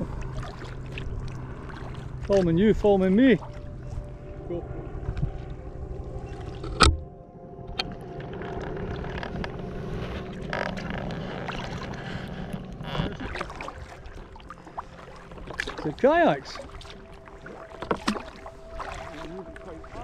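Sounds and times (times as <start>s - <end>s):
paddle splashing water: 0.0s - 7.1s, 7.7s - 20.0s
water lapping at hull: 0.0s - 20.0s.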